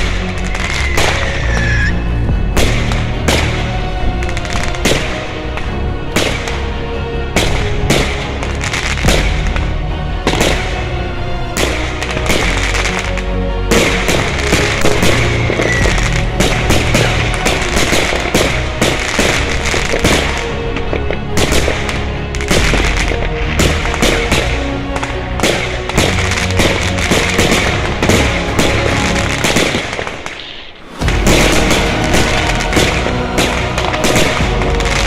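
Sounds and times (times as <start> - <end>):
fireworks banging and crackling: 0.0 - 11.0, 11.6 - 35.0
music playing: 0.0 - 35.0.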